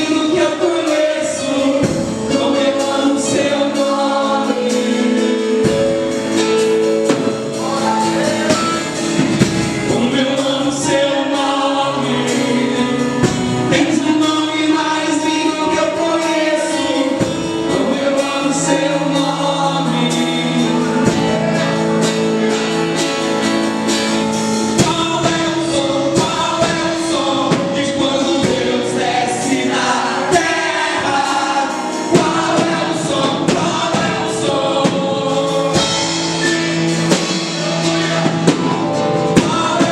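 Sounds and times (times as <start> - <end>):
instrumental accompaniment held notes: 0.0 - 39.9
worship song singing: 0.0 - 39.9.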